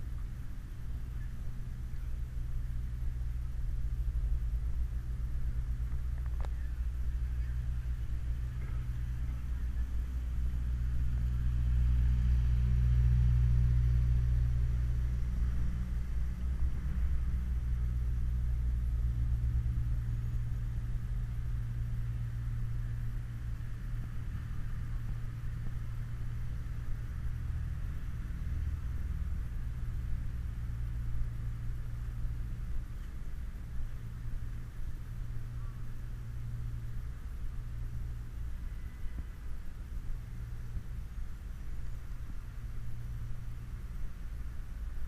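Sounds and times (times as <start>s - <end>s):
muffled city street rumble: 0.0s - 45.0s.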